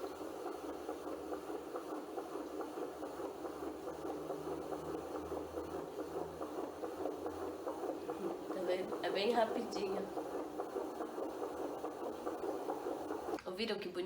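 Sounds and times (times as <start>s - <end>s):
fetal heartbeat whooshing pulse: 0.0s - 13.4s
steady hiss: 0.0s - 13.4s.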